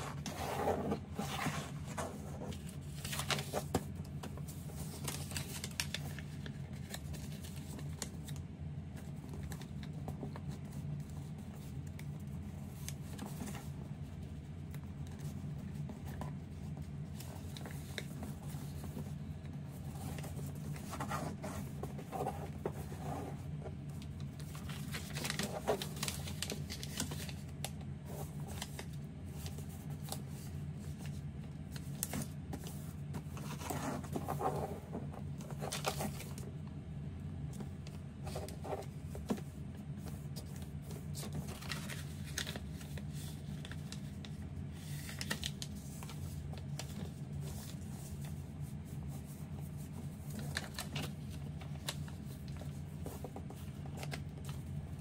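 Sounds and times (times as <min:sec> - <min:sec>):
paper rustling and crinkling: 0:00.0 - 0:36.6, 0:37.4 - 0:55.0.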